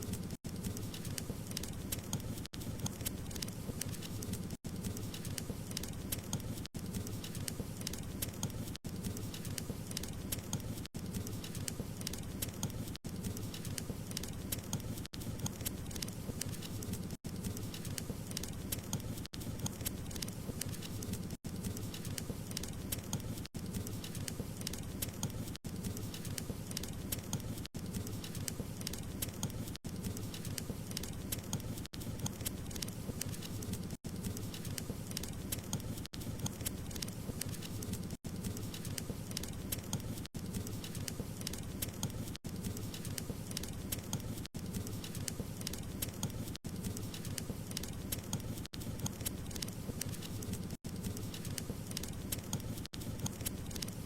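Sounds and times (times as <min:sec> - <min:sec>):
burning wood crackling: 0:00.0 - 0:54.0.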